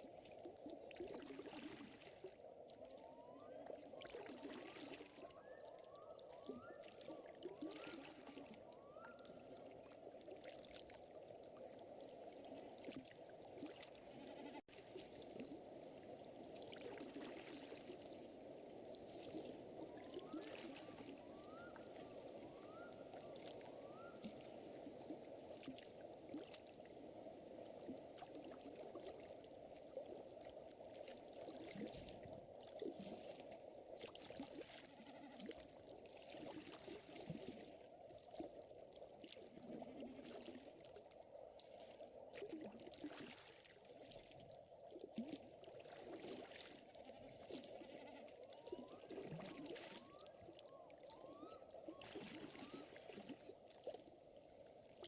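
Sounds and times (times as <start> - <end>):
water-like wash: 0.0 - 55.0.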